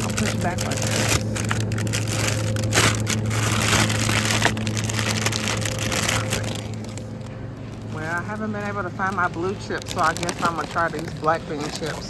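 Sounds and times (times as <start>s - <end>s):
plastic bags crackling on microphone: 0.0s - 12.0s
steady low hum: 0.0s - 12.0s.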